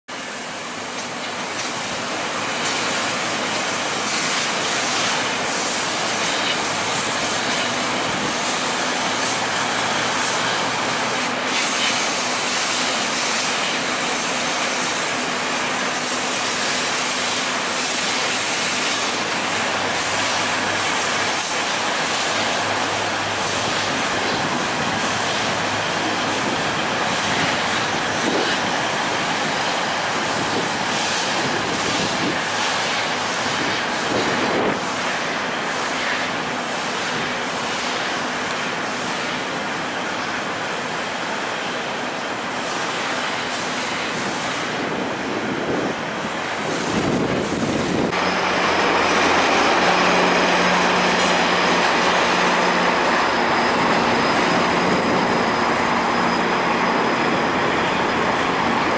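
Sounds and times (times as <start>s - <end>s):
city noise: 0.1s - 58.9s
rumble of wheels on rail: 0.1s - 58.9s
train engines running: 0.1s - 58.9s.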